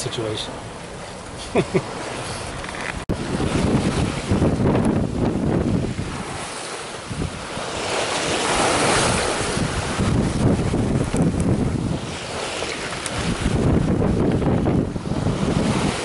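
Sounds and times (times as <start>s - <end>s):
ocean waves rushing: 0.0s - 16.0s
wind buffeting microphone: 1.9s - 16.0s.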